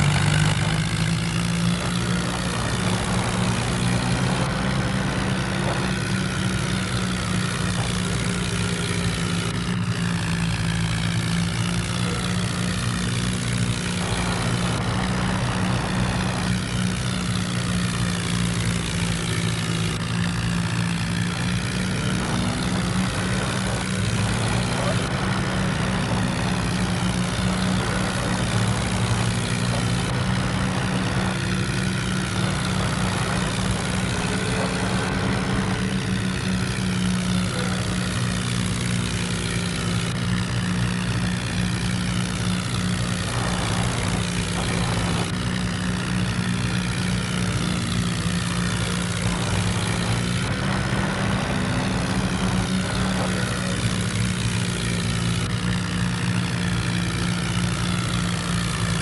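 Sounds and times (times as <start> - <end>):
toy tractor motor droning: 0.0 - 59.0.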